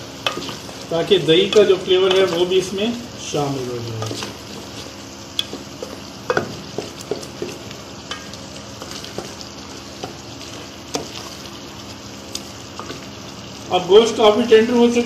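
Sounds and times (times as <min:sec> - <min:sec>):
masala sizzling in a pot: 0:00.0 - 0:15.0.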